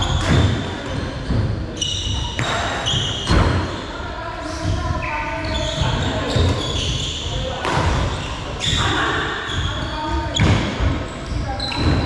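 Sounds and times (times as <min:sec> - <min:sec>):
shoe squeaks on court floor: 0:00.0 - 0:03.9, 0:05.0 - 0:12.0.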